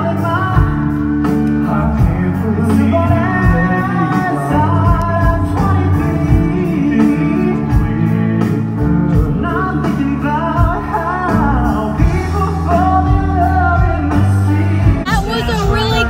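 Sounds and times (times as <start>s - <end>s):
bass line: 0.0s - 16.0s
live rock band playing: 0.0s - 16.0s
man singing: 0.0s - 16.0s
drums steady beat: 0.1s - 16.0s.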